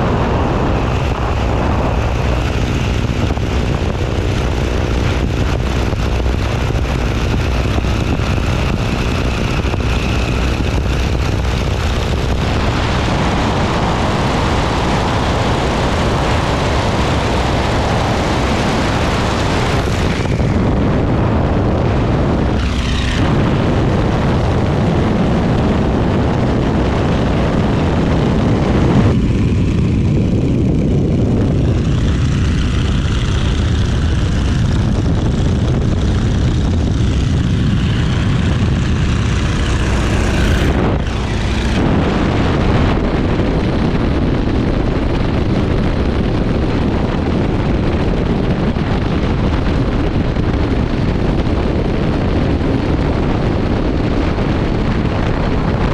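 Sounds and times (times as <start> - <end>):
heavy wind rush: 0.0 - 55.9
propeller plane engine in flight: 0.0 - 55.9.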